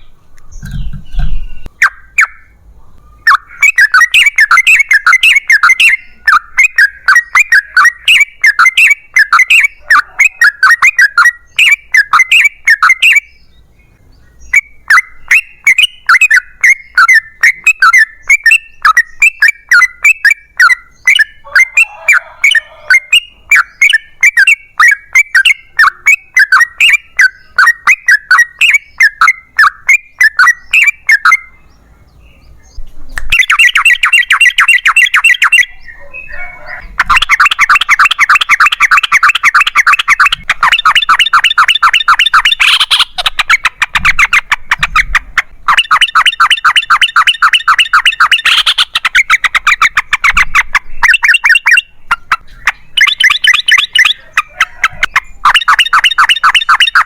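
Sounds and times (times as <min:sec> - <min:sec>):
bulbul singing chattering song: 0:00.0 - 0:57.0.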